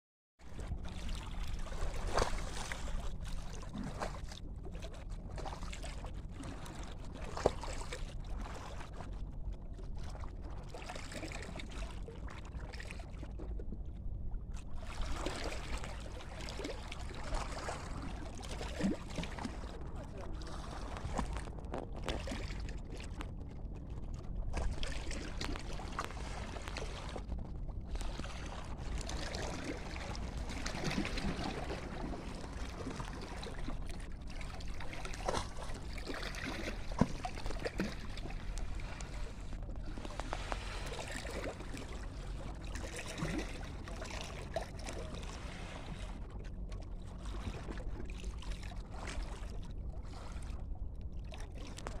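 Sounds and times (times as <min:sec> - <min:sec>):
steady low rumble: 0:00.4 - 0:52.0
small waves lapping: 0:00.5 - 0:09.2, 0:09.8 - 0:13.7, 0:14.6 - 0:52.0.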